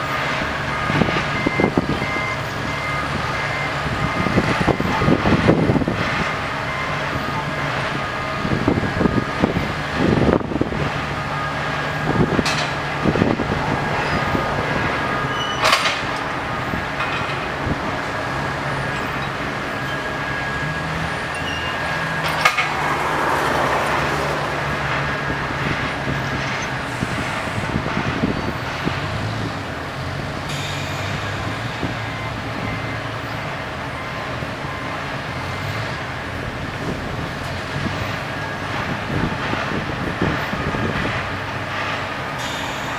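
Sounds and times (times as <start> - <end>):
crane engine running: 0.0 - 42.9.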